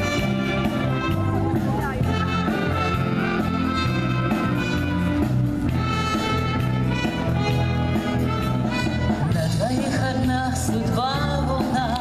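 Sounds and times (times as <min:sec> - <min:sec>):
brass band playing: 0:00.0 - 0:11.2.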